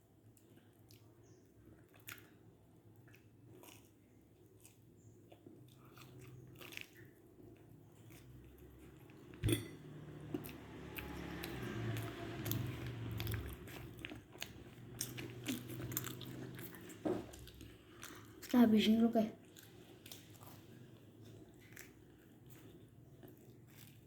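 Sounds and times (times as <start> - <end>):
corn dog crunching and chewing: 1.8 - 18.7, 19.4 - 24.0.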